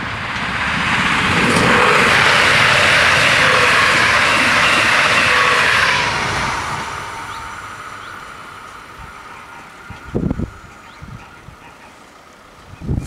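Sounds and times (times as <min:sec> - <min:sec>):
train passing at speed: 0:00.0 - 0:13.0
wheels rushing on rail: 0:00.0 - 0:13.0.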